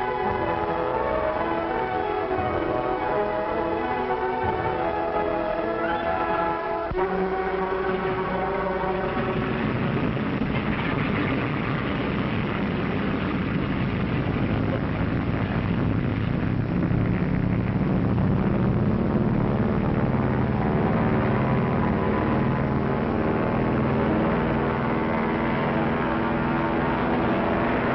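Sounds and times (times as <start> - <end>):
propeller plane engines droning: 0.0 - 27.9.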